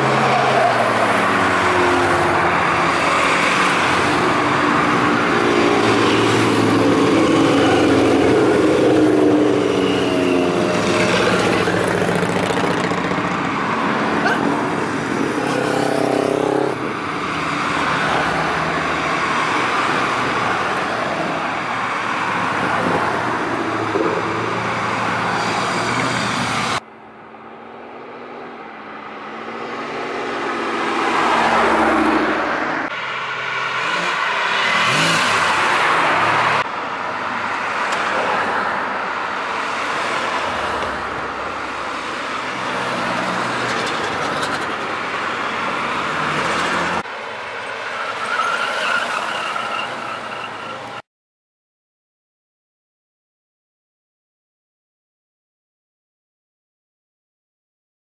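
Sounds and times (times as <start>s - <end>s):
tyre noise on road: 0.0s - 26.9s, 27.9s - 51.0s
cars driving past: 0.0s - 51.0s.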